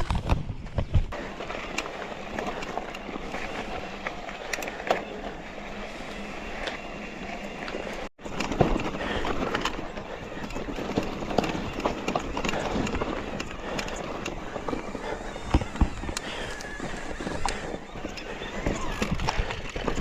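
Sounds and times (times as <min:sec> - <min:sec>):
bike clicking and rattling: 0:00.0 - 0:20.0
bike tyres rolling over dirt: 0:00.0 - 0:20.0.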